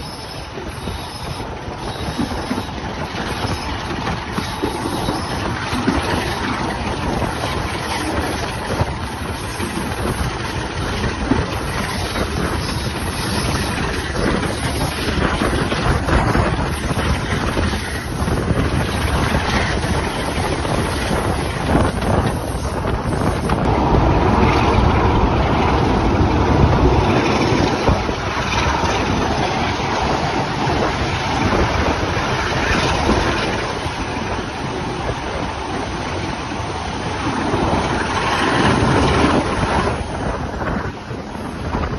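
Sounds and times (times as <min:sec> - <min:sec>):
diesel locomotive engine working hard: 0:00.0 - 0:41.9
train running noise: 0:00.0 - 0:41.9
wind buffeting microphone: 0:00.0 - 0:41.9.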